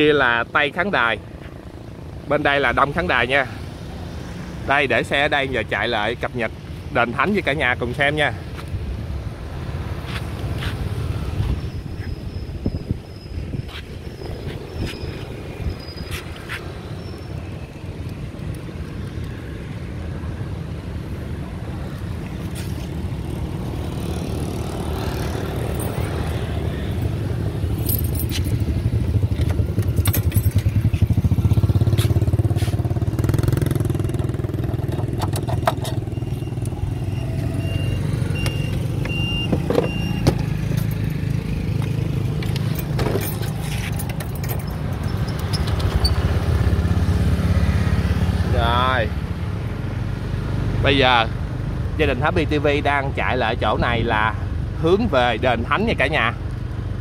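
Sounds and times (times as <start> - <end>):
motor vehicle rumbling: 0.0 - 57.0.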